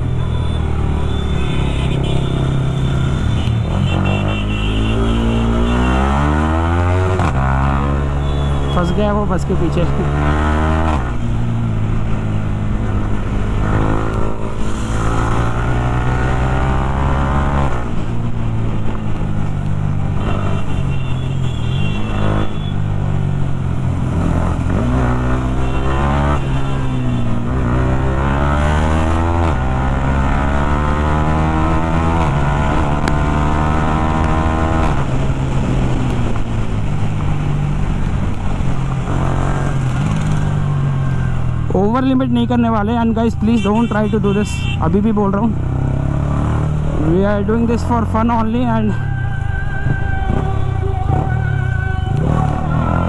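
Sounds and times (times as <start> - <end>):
motorcycle engine revving: 0.0 - 19.0, 20.1 - 41.8, 45.0 - 49.1, 49.7 - 53.0.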